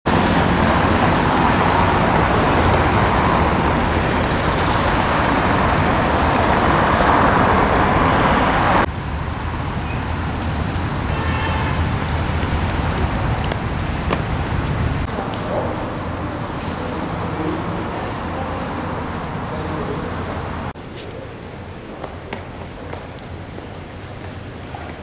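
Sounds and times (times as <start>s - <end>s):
traffic background: 0.0s - 25.0s
cars passing close by: 0.1s - 20.8s.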